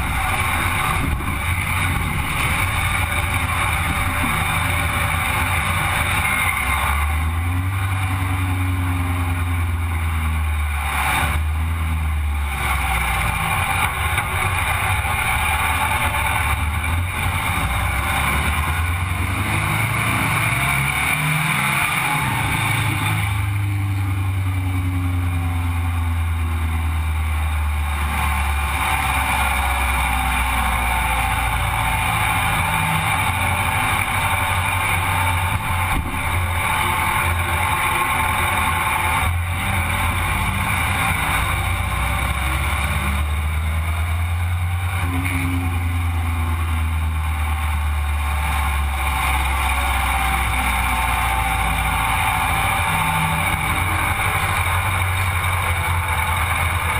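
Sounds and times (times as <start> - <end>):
buggy engine: 0.0 - 56.9.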